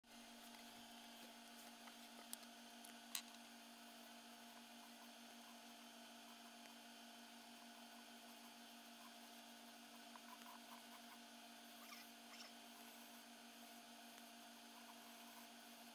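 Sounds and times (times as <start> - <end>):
low electrical hum: 0.1 - 15.9.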